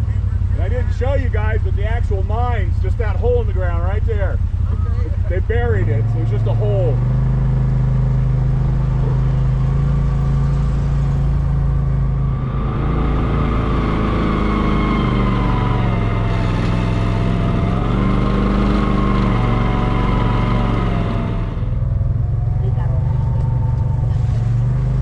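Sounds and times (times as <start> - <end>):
vehicle engine driving: 0.0 - 25.0.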